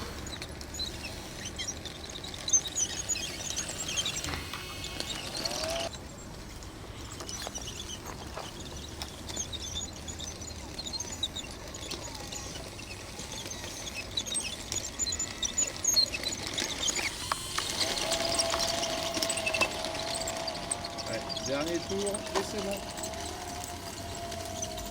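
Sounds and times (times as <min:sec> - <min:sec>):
mechanical whine of electric motor: 0:00.0 - 0:06.0, 0:07.2 - 0:24.9
small birds chirping: 0:00.0 - 0:24.9.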